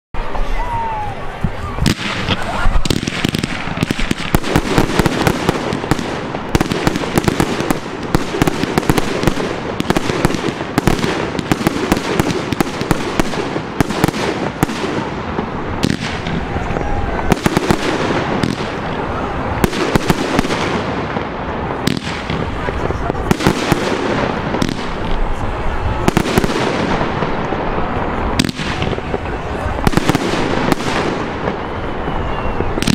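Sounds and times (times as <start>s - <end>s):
fireworks bangs and crackling: 0.2s - 32.9s.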